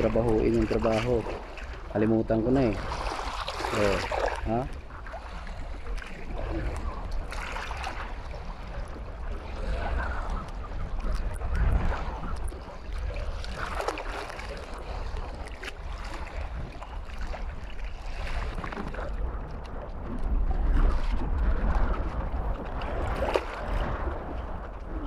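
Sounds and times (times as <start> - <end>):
small waves lapping: 0.0 - 25.0
wind buffeting microphone: 0.0 - 25.0.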